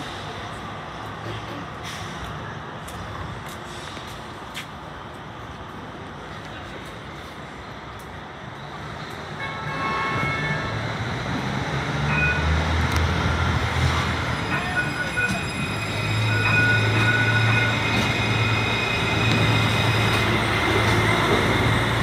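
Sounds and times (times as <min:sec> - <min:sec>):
street traffic noise: 0:00.0 - 0:22.0
tram moving slowly past: 0:00.0 - 0:22.0.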